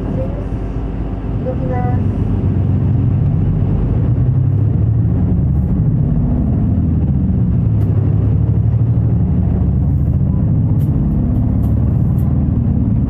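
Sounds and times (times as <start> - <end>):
bus diesel engine running: 0.0 - 13.0
road noise: 0.0 - 13.0.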